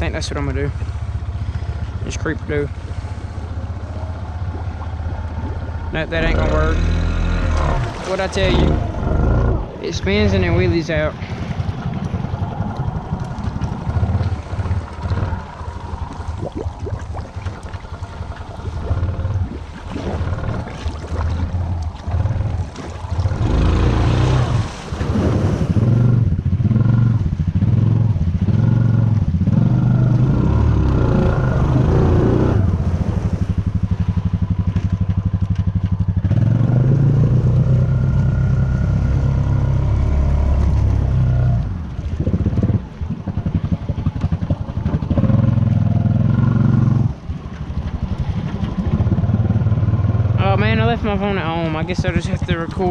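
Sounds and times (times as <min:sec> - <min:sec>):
mud splashing: 0:00.0 - 0:26.7, 0:27.4 - 0:52.9
atv engine: 0:00.0 - 0:52.9.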